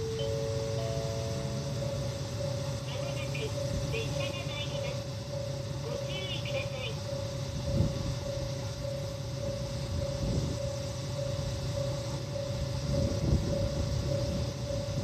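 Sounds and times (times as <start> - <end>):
diesel railcar engine idling: 0.0 - 15.0.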